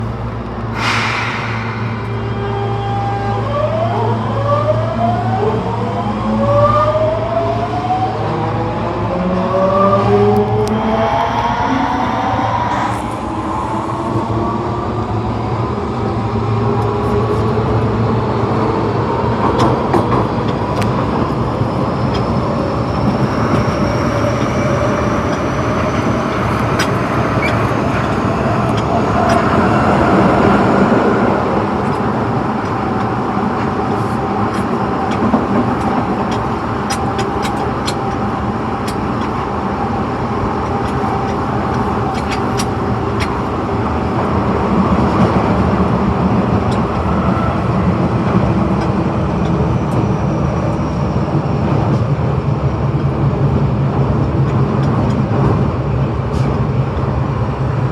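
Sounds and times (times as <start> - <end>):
train running rumble: 0.0 - 4.0, 10.0 - 57.9
subway train motor whine: 0.0 - 54.4.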